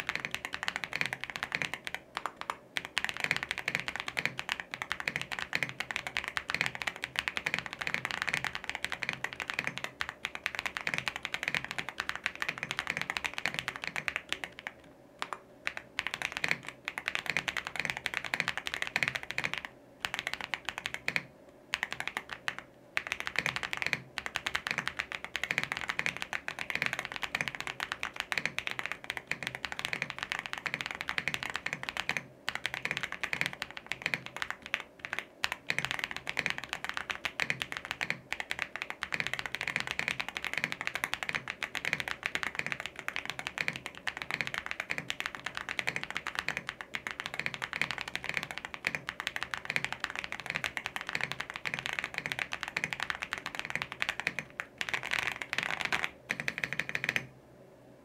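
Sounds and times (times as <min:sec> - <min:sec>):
typing on mechanical keyboard: 0:00.0 - 0:57.3.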